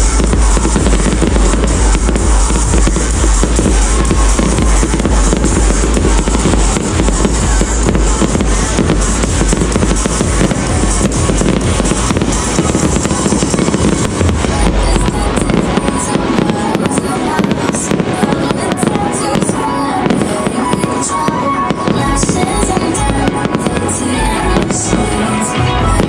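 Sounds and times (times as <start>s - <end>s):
fireworks bursting and popping: 0.0s - 26.0s
loud music: 0.0s - 26.0s
sharp high crackling: 0.0s - 26.0s.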